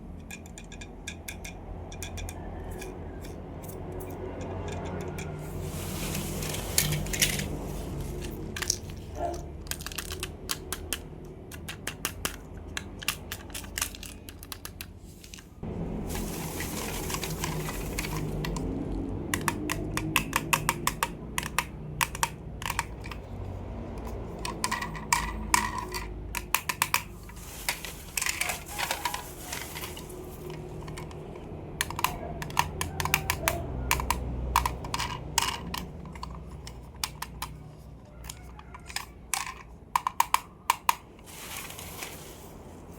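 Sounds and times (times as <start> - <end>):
plastic toys clicking and tapping: 0.0 - 15.6, 16.2 - 41.4.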